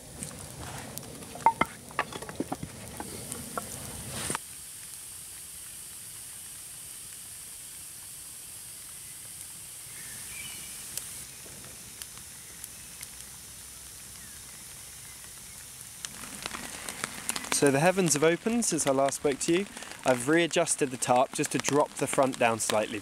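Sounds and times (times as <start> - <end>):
campfire crackling and popping: 0.0 - 23.0
faint steady hiss: 0.0 - 23.0.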